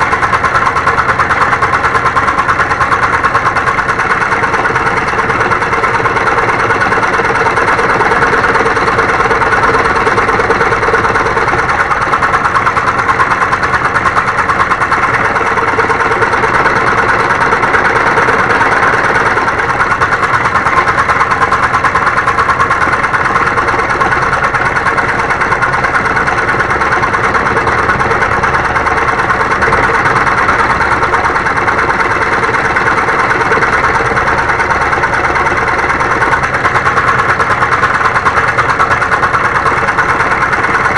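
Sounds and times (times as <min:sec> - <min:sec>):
scroll saw cutting wood: 0:00.0 - 0:40.9.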